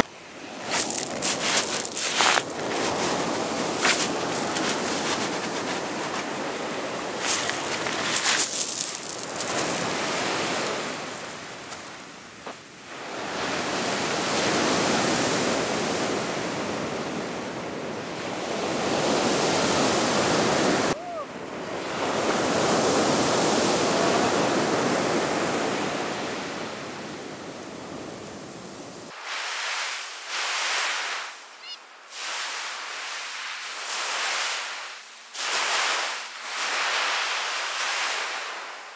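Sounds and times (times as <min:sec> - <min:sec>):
surf on pebble beach: 0:00.0 - 0:38.9.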